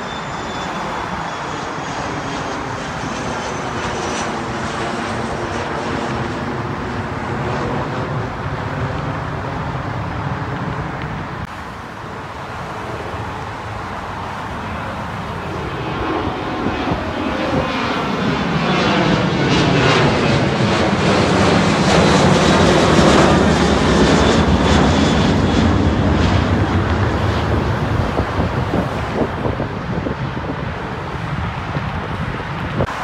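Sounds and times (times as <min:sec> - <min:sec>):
jet engines roaring overhead: 0:00.0 - 0:33.0.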